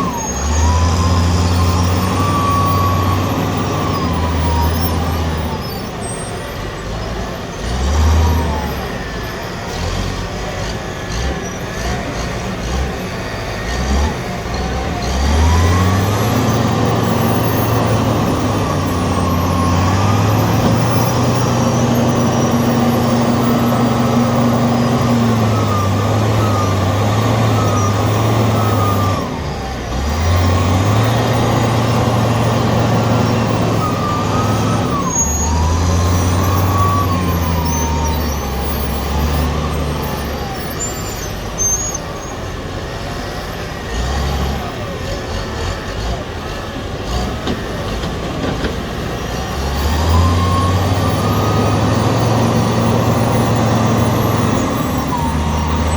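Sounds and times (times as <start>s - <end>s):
gliding engine whine: 0.0s - 55.9s
wheel loader diesel engine revving: 0.0s - 55.9s.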